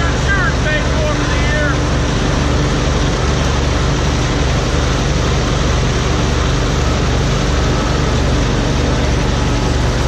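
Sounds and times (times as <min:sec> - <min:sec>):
constant noisy rush: 0:00.0 - 0:10.0
heavy vehicle engine drone: 0:00.0 - 0:10.0.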